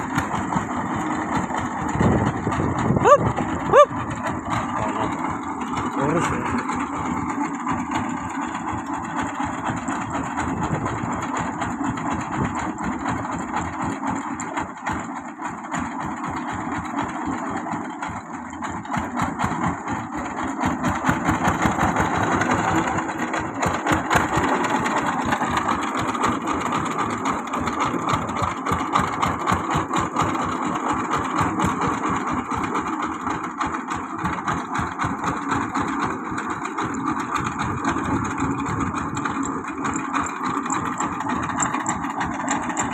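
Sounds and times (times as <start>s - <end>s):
engine with rapid pulsing beat: 0.0s - 42.9s.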